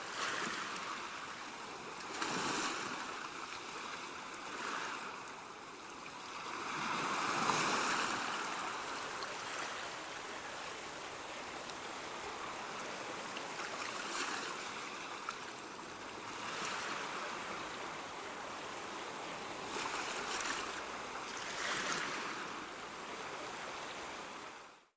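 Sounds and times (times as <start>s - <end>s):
ocean waves washing ashore: 0.0s - 24.8s.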